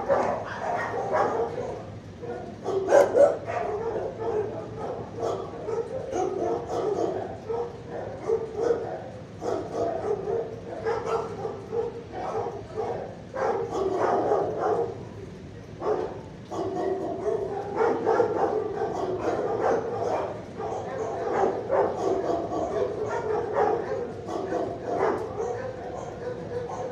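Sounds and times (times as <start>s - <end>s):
dogs barking and yipping: 0.0s - 26.9s.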